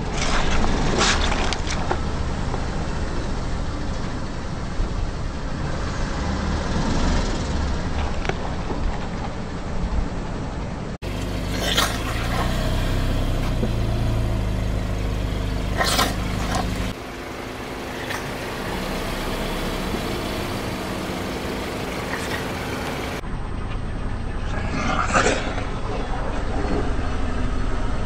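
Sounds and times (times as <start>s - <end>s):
car engine idling: 0.0s - 6.0s, 6.6s - 28.0s.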